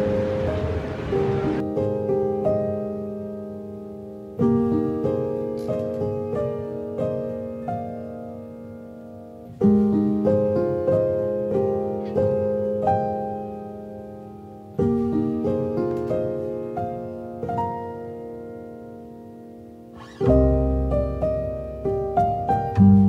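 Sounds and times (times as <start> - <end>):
slow solo piano piece: 0.0 - 23.0.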